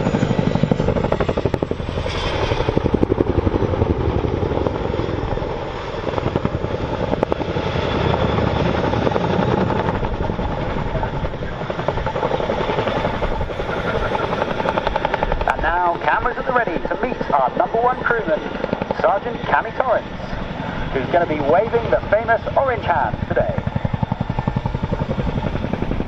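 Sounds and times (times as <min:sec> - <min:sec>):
helicopter rotor blades beating: 0:00.0 - 0:26.0
turbine engines rumbling: 0:00.0 - 0:26.0.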